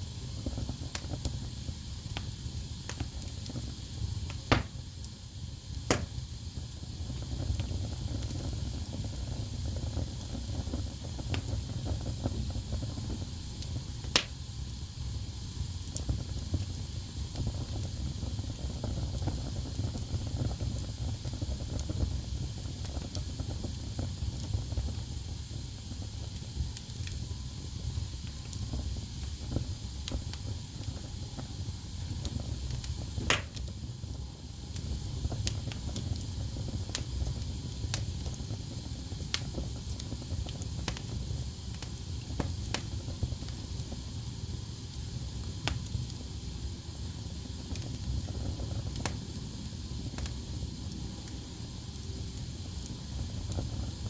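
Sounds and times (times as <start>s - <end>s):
fire crackling and popping: 0.0s - 54.0s
rumble and hiss of flames: 0.0s - 54.0s.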